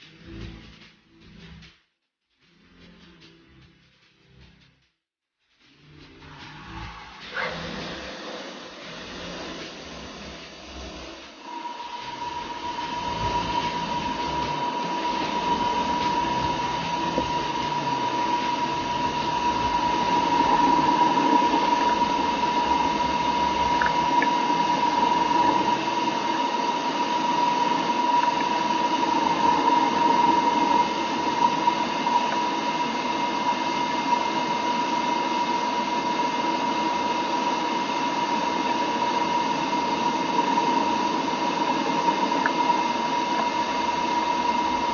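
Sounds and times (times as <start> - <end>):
mechanical hiss: 5.5 - 44.9
machine tool high whine: 5.6 - 44.9.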